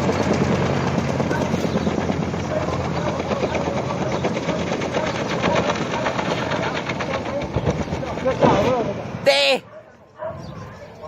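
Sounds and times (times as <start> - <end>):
machine pulsing rhythmically: 0.0 - 9.1.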